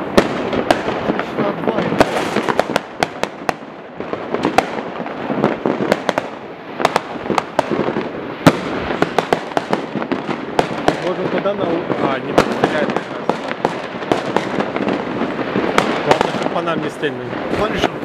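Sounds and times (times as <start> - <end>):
firecrackers crackling: 0.0 - 18.0
fireworks bangs: 0.0 - 18.0.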